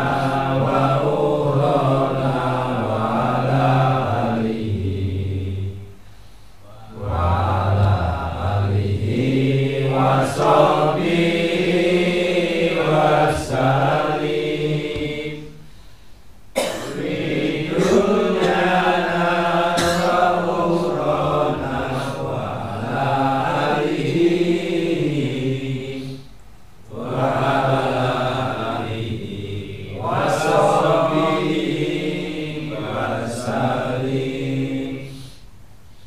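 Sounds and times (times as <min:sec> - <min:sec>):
men chanting together: 0:00.0 - 0:05.9, 0:06.7 - 0:15.6, 0:16.6 - 0:26.3, 0:26.9 - 0:35.4.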